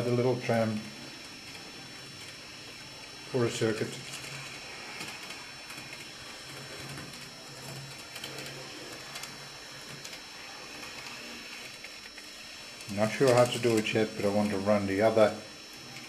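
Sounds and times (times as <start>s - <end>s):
small electric motor whirring: 0.0s - 16.0s.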